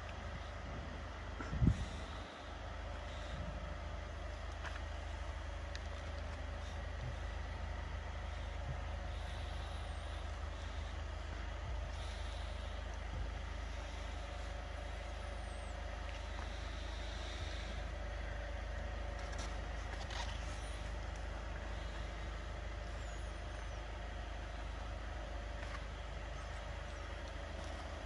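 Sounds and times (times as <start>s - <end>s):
room ambience rumble and hiss: 0.0s - 28.0s.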